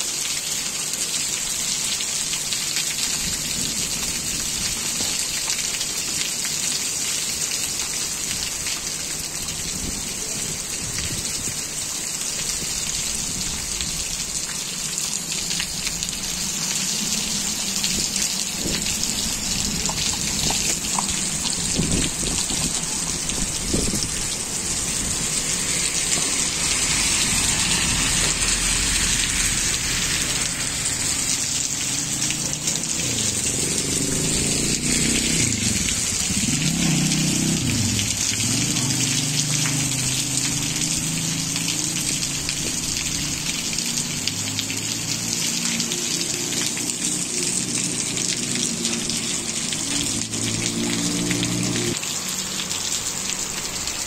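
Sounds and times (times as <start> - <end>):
heavy rain splashing on puddles: 0.0 - 54.0.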